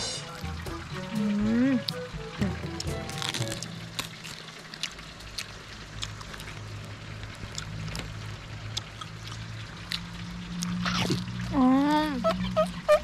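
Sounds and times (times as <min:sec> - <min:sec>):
low motor hum: 0:00.0 - 0:13.0
running water: 0:00.0 - 0:13.0.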